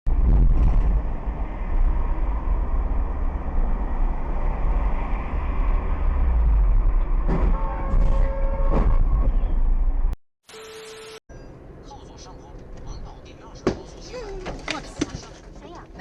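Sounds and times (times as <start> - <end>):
vehicle engine and road noise: 0.1 - 10.2, 10.9 - 16.0.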